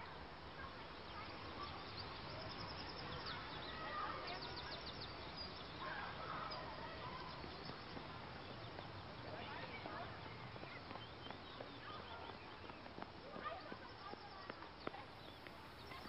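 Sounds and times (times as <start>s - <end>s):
birds calling: 0.6s - 16.0s.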